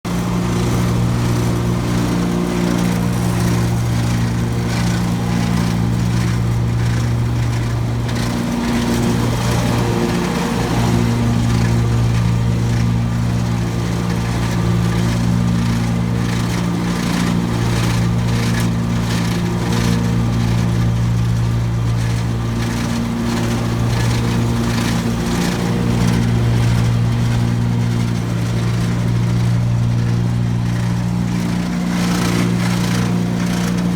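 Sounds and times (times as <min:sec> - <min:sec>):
mower engine running: 0:00.0 - 0:33.9
rattling from mower deck: 0:00.1 - 0:33.9.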